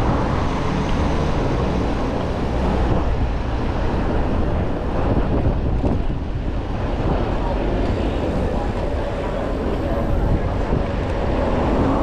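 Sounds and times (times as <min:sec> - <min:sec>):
road traffic noise: 0:00.0 - 0:12.0
wind rumble on microphone: 0:00.0 - 0:12.0.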